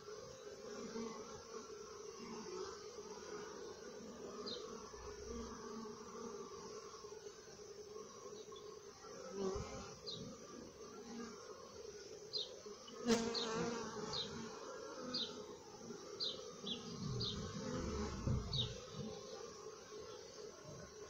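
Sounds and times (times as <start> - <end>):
honey bees buzzing: 0.0 - 21.0.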